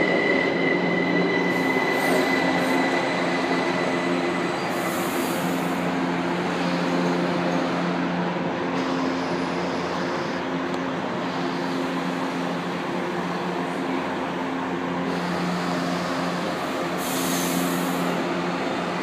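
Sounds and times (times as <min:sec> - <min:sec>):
train humming at platform: 0:00.0 - 0:19.0.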